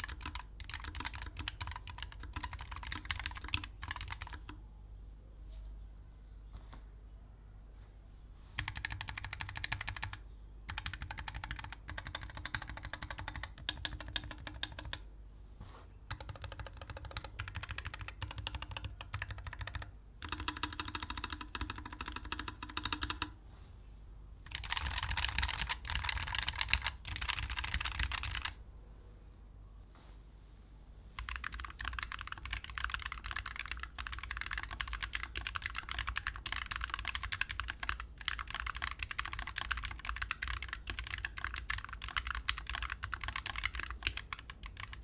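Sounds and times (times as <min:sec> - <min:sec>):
mechanical keyboard typing: 0:00.0 - 0:04.6, 0:08.6 - 0:15.0, 0:16.1 - 0:23.4, 0:24.4 - 0:28.6, 0:31.2 - 0:45.0
rapid keystroke clicks: 0:00.0 - 0:04.6, 0:08.6 - 0:15.0, 0:16.1 - 0:23.4, 0:24.4 - 0:28.6, 0:31.2 - 0:45.0.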